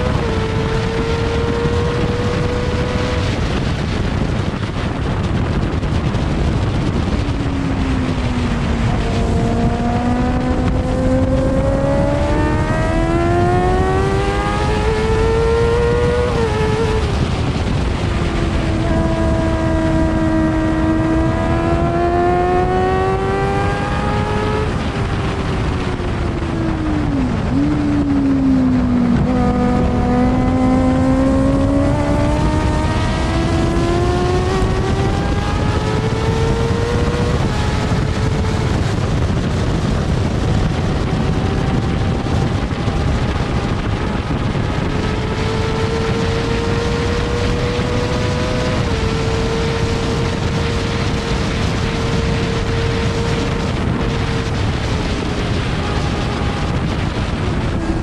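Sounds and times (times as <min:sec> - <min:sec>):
racing engine revving: 0:00.0 - 0:58.0
wind rush on microphone: 0:00.0 - 0:58.0.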